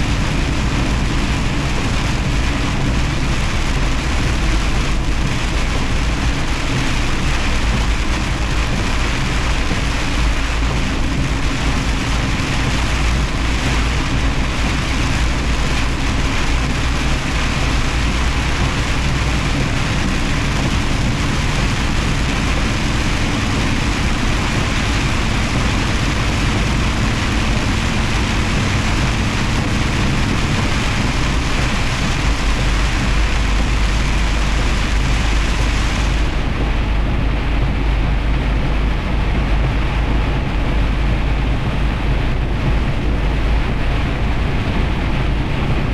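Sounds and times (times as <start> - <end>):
hiss of rain and tyre spray: 0.0 - 45.9
truck engine and road rumble: 0.0 - 45.9.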